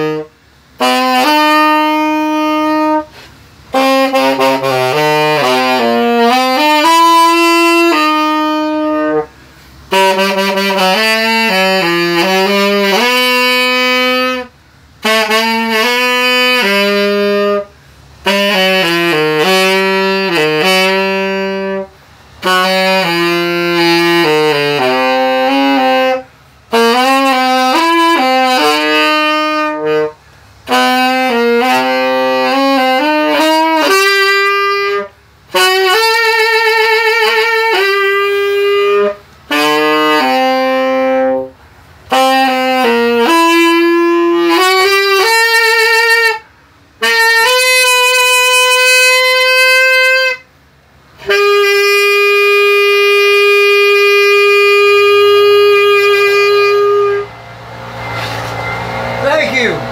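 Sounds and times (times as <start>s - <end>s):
solo saxophone melody: 0.0s - 59.9s.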